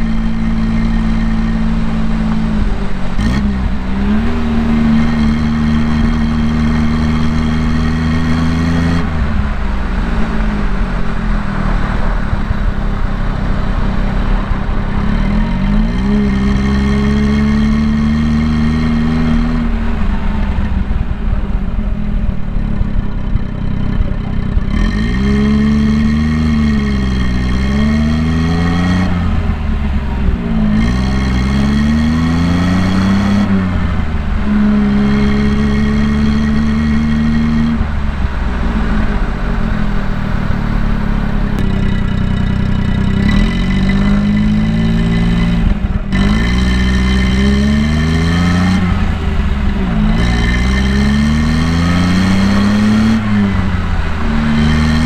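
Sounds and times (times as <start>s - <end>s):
car engine revving while driving: 0.0s - 55.0s.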